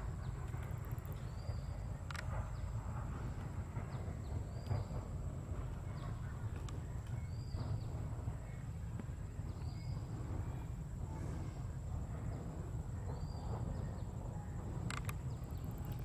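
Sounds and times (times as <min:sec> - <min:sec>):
distant train rumbling past: 0:00.0 - 0:16.0.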